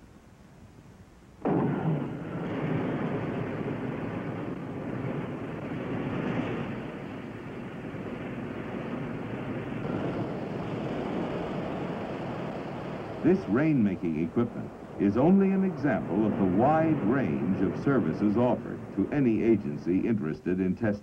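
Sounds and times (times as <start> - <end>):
rocket motor roaring: 1.4 - 19.6.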